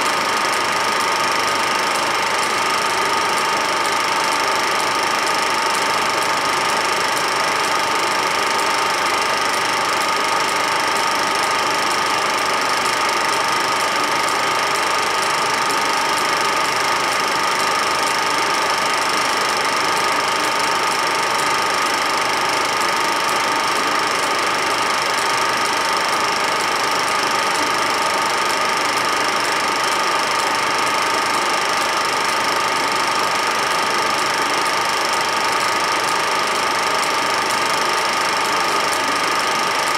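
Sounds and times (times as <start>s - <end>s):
film projector clattering: 0.0s - 39.9s.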